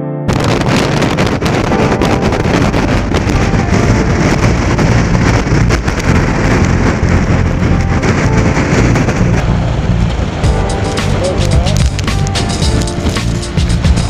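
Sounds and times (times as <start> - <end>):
heavy surf breaking on rocks: 0.3 - 14.0
storm wind buffeting microphone: 0.3 - 14.0.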